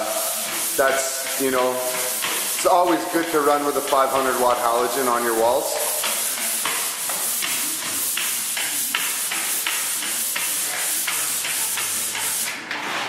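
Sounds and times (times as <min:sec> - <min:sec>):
sandpaper scraping drywall: 0:00.0 - 0:13.0.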